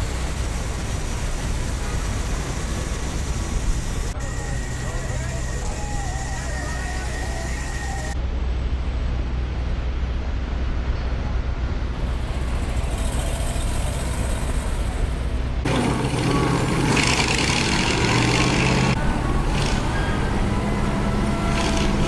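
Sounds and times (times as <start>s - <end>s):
heavy truck engine rumbling: 0.0s - 22.0s.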